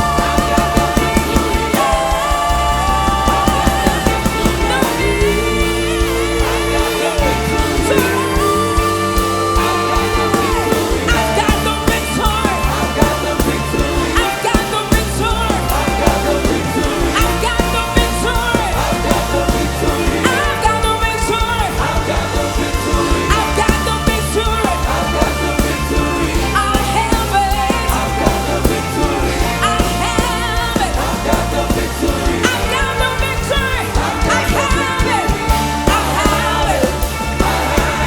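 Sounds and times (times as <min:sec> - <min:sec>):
loud live music with singing: 0:00.0 - 0:38.0.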